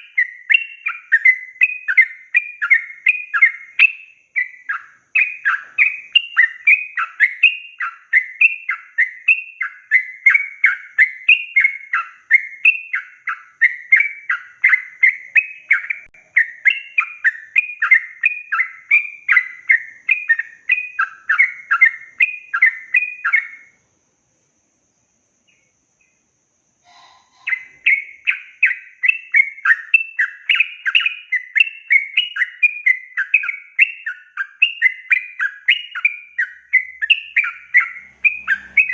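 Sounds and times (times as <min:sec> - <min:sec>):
bird chattering song: 0:00.0 - 0:23.8, 0:24.9 - 0:38.9.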